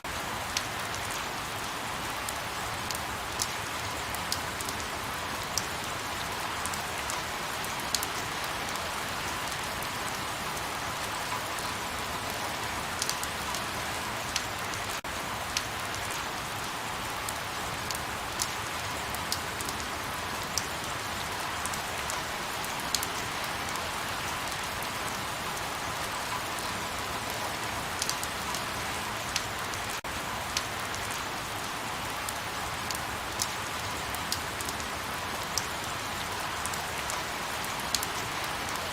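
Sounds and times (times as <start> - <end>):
raindrops ticking: 0.0 - 38.9.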